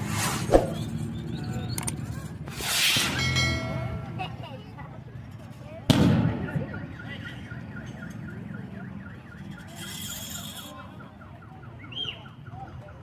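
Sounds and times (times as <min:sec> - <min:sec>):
street crowd rumble: 0:00.0 - 0:13.0.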